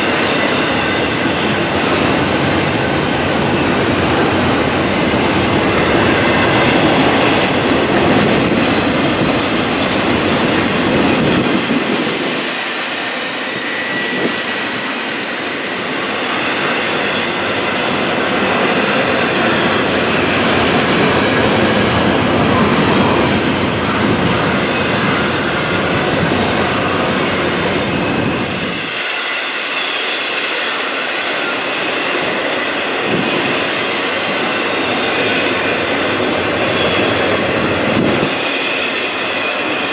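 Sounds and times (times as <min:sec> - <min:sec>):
freight train passing: 0:00.0 - 0:39.9.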